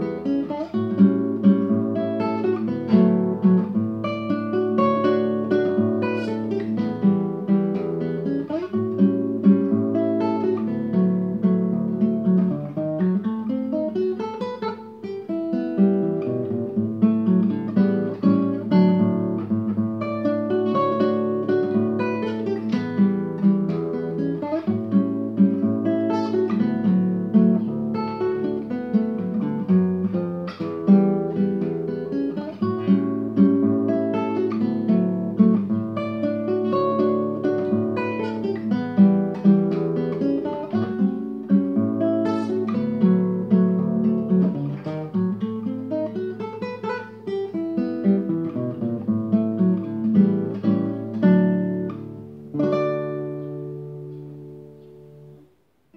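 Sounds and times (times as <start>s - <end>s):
fingerstyle classical guitar: 0.0s - 55.9s.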